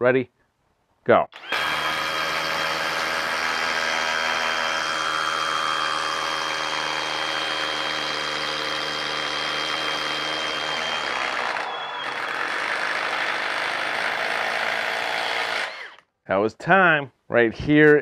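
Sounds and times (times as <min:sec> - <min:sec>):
impact driver hammering into wood: 0:01.4 - 0:16.0.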